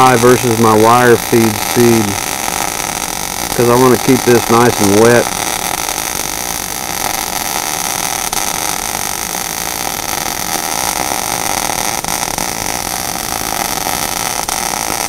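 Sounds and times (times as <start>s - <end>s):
welding arc hissing: 0.0s - 15.0s.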